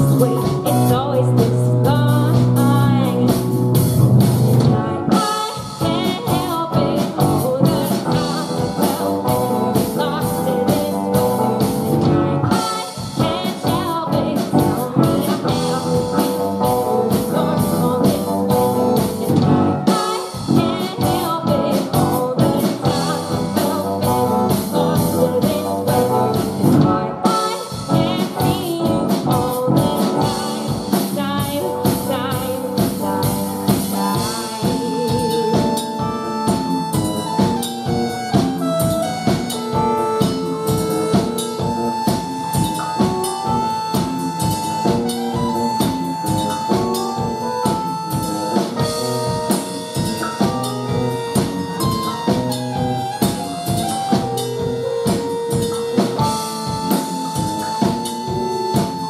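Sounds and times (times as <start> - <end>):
drum kit beat: 0.0 - 59.0
electric guitar: 0.0 - 59.0
keyboards: 0.0 - 59.0.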